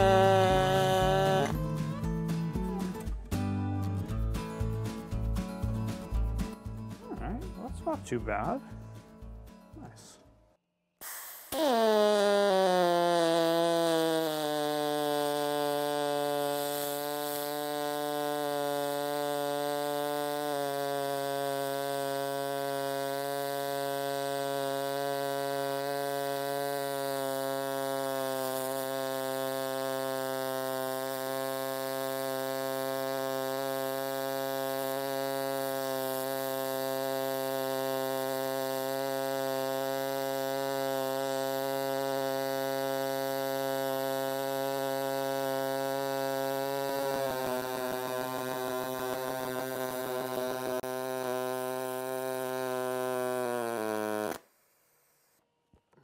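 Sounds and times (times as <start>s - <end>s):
welding arc buzzing hum: 0.0s - 3.2s, 11.0s - 55.4s.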